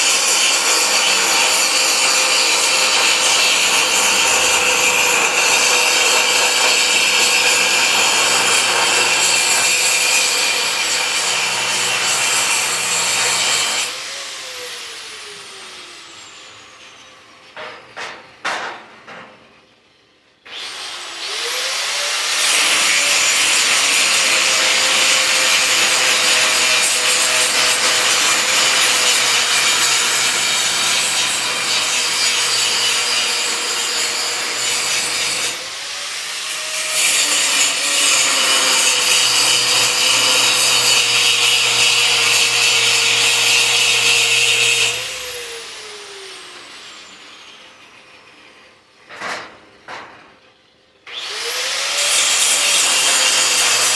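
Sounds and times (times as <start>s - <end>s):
power tool cutting metal: 0.0s - 17.5s, 20.5s - 50.0s, 51.1s - 53.9s.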